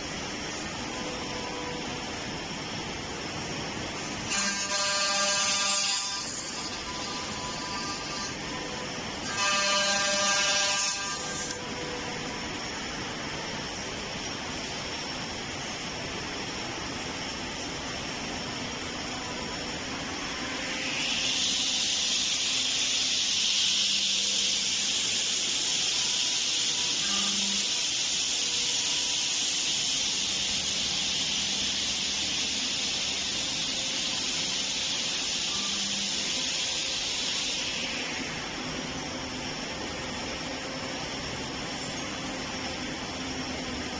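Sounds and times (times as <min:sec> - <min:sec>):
loud even hiss: 0:00.0 - 0:43.9.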